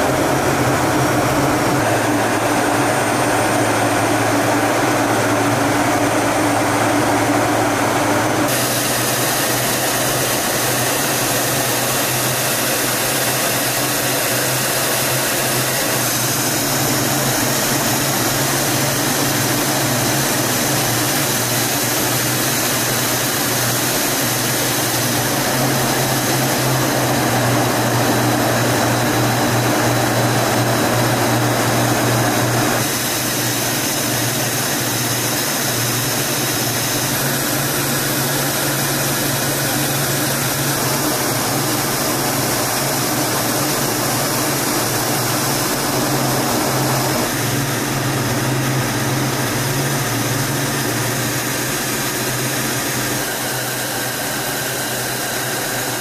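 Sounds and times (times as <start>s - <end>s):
jet aircraft drone in flight: 0.0s - 56.0s.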